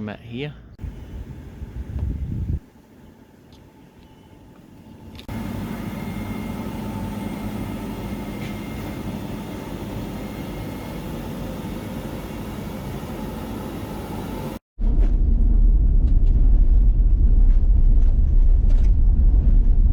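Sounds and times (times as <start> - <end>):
mechanical rumble with low hum: 0.6 - 19.9.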